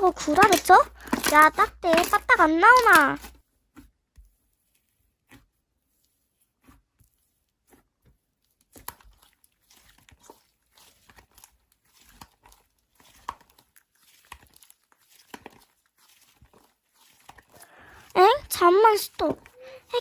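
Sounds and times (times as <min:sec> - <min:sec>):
slime squished by hand: 0:00.3 - 0:20.0.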